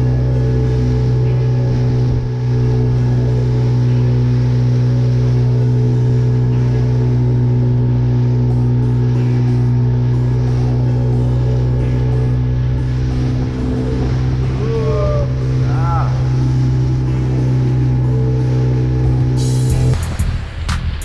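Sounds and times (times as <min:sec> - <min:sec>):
outboard motor running: 0:00.0 - 0:20.6.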